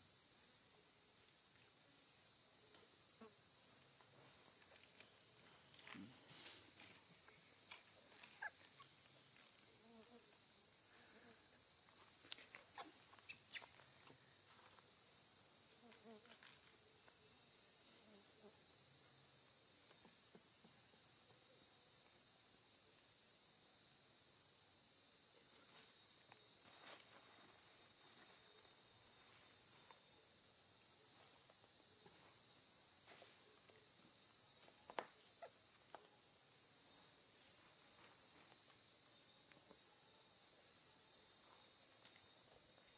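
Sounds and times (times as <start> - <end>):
insect chorus drone: 0.0 - 42.9.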